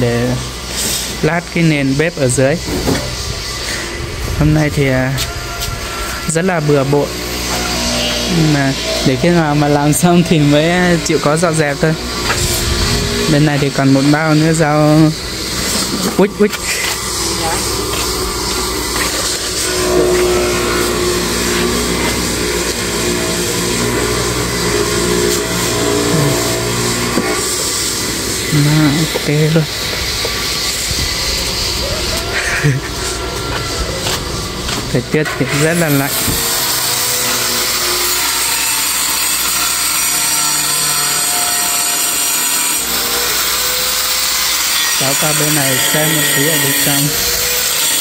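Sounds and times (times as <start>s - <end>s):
power tool whining: 0.0s - 48.0s.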